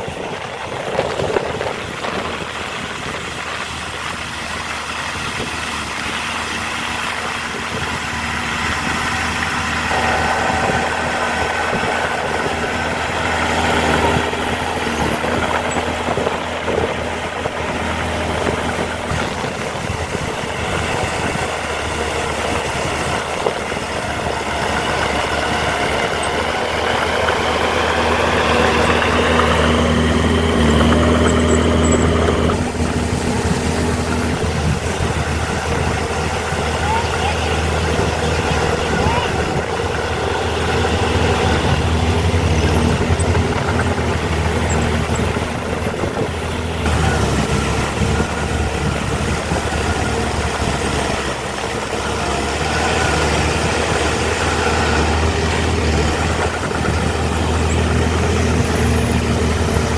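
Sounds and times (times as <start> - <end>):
diesel machinery engine drone: 0.0 - 59.9.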